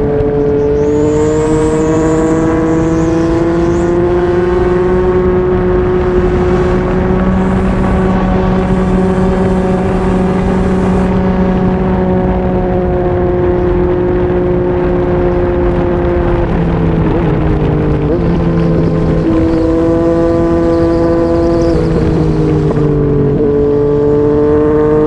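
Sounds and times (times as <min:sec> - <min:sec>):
motorcycle engine cruising: 0:00.0 - 0:25.0
wind rushing: 0:00.0 - 0:25.0.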